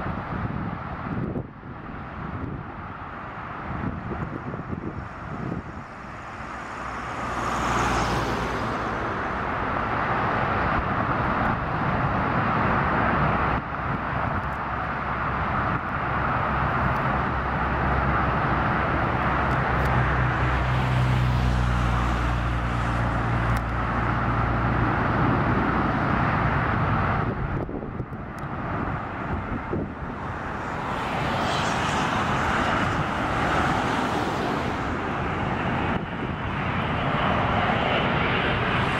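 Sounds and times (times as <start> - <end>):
jet airliner rush overhead: 0.0 - 38.9
street traffic: 0.0 - 38.9
vehicle engine low hum: 3.4 - 38.9.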